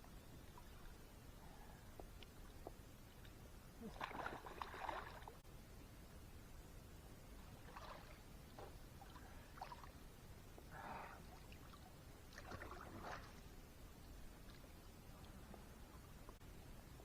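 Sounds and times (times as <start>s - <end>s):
faint water splashing: 0.1s - 5.4s, 7.3s - 16.4s.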